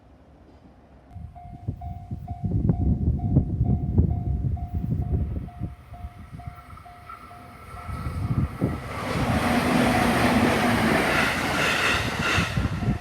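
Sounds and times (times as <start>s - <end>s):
train running noise: 0.4s - 13.0s
wind on microphone: 1.2s - 13.0s.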